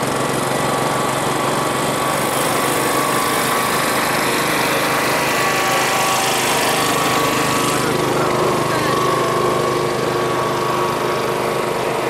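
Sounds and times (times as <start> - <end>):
engine drone with whining tones: 0.0 - 12.0.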